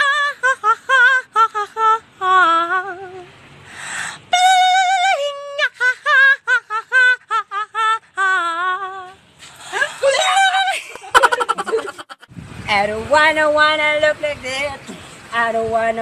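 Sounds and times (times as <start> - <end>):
woman singing with vibrato: 0.0 - 3.4, 4.2 - 11.4, 12.6 - 16.0.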